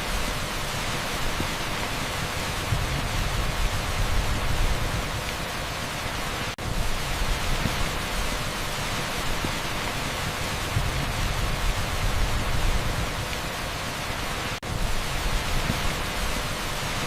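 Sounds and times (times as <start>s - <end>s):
torrential rain on asphalt: 0.0s - 17.0s.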